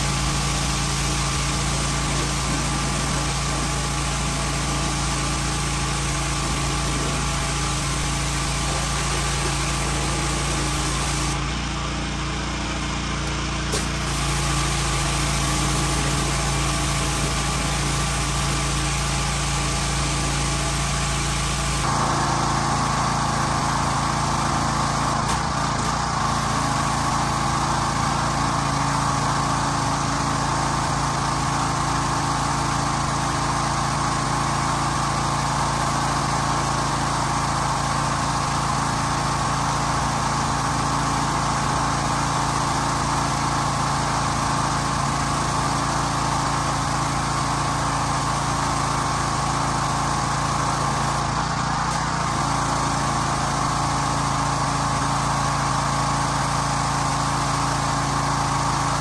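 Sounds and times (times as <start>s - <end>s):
high-pressure water spray hiss: 0.0s - 11.4s, 13.7s - 30.2s, 30.9s - 51.3s, 51.9s - 59.0s
small engine running: 0.0s - 59.0s.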